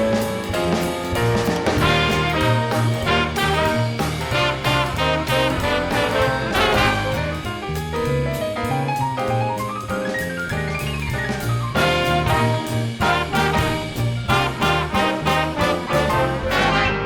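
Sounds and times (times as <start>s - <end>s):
swing jazz with brass: 0.0s - 17.0s.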